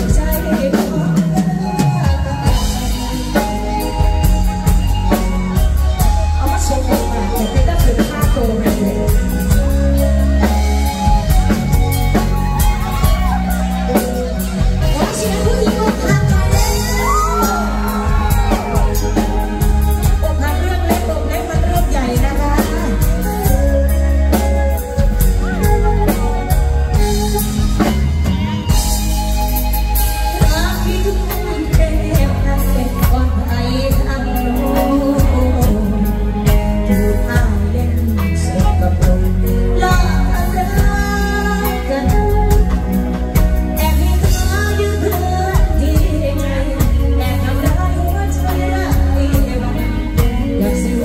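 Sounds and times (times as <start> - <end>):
person singing: 0.0 - 28.0, 30.2 - 51.0
live band playing: 0.0 - 51.0.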